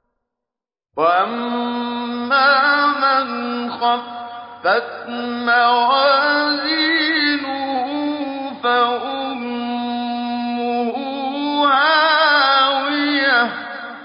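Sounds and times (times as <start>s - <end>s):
man chanting melodically: 1.0s - 14.0s.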